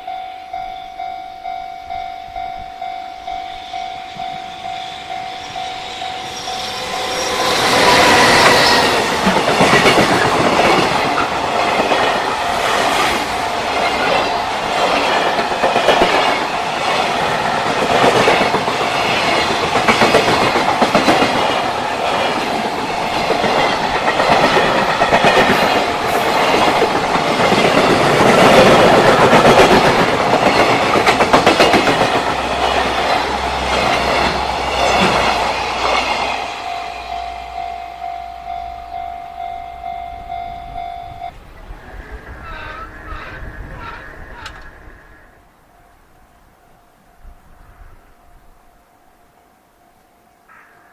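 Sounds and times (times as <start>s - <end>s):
freight train passing: 0.0s - 50.9s.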